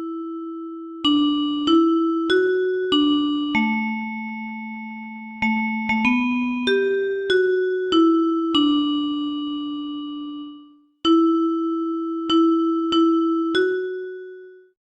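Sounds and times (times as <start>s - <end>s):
bell-like mallet notes: 1.0s - 14.4s.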